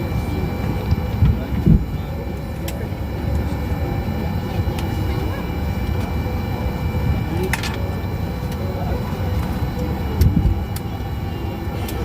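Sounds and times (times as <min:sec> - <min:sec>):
airliner engines rumbling: 0:00.0 - 0:12.0
faint high steady tones: 0:00.0 - 0:12.0.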